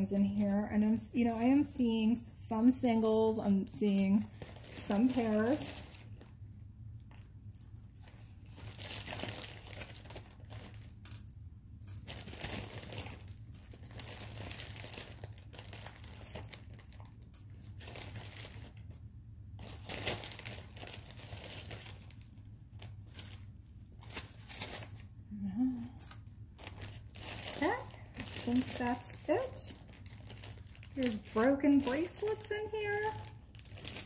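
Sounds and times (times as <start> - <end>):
jewelry rustling in a bag: 0.0 - 6.4, 7.0 - 34.0
low steady hum: 0.0 - 34.0.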